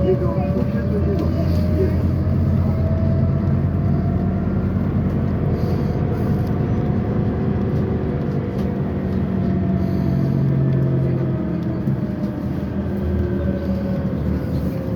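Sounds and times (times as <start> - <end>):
bus engine hum: 0.0 - 14.9
faint drivetrain whine: 0.0 - 14.9.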